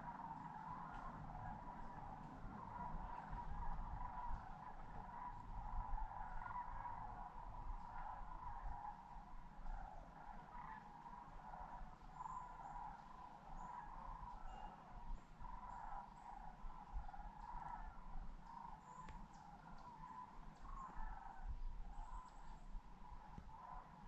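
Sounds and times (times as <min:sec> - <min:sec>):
distant cranes calling: 0:00.0 - 0:24.0.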